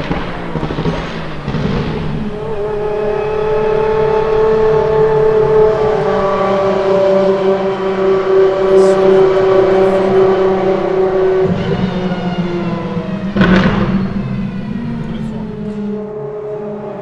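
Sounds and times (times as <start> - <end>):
engine running at high speed: 0.0 - 16.1
rough noisy burst: 0.0 - 16.1.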